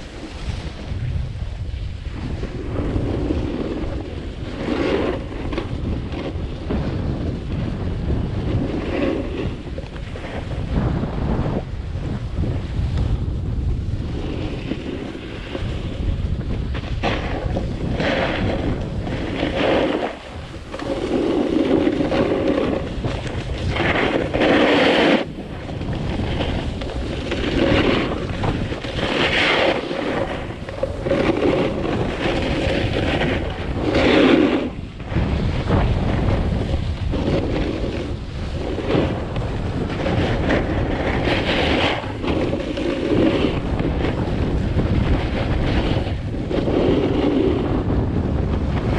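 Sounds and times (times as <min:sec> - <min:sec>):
snowboard scraping on snow: 0:00.0 - 0:48.9
wind rumble on microphone: 0:00.0 - 0:48.9.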